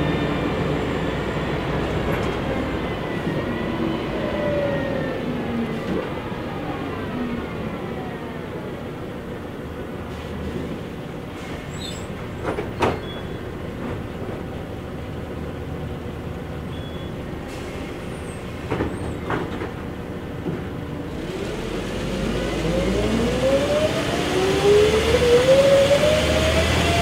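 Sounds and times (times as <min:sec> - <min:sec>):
bus engine running: 0:00.0 - 0:27.0.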